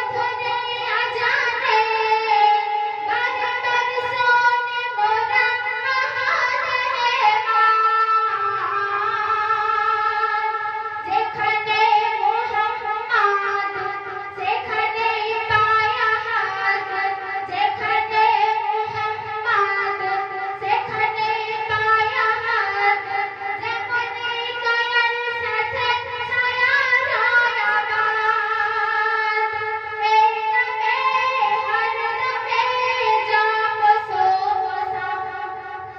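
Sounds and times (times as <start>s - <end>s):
woman singing devotional song: 0.0s - 35.9s.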